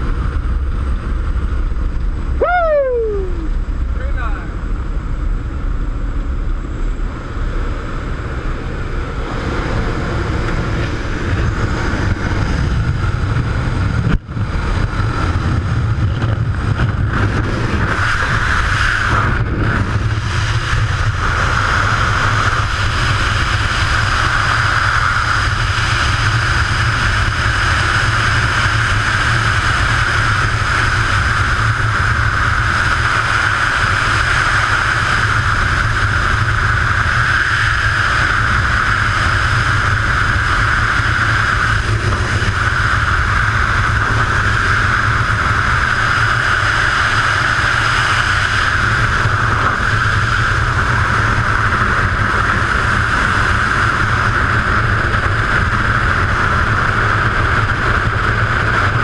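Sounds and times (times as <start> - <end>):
wind buffeting a camera: 0.0 - 59.0.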